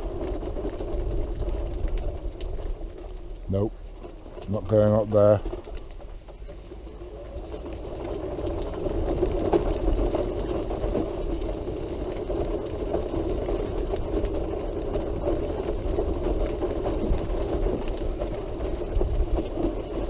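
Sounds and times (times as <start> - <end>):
powered wheelchair motor hum: 0.0 - 20.0.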